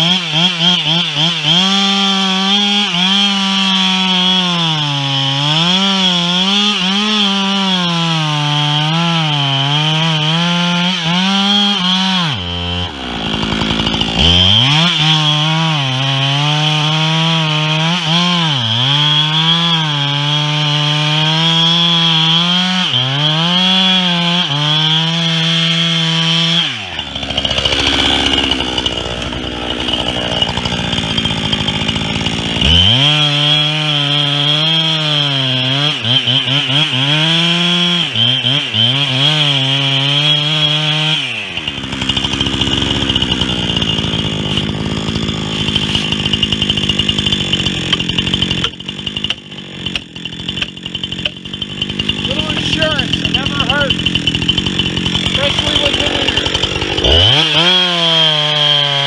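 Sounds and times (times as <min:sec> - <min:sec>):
chainsaw cutting wood: 0:00.0 - 0:59.0
chainsaw idling: 0:00.0 - 0:59.0.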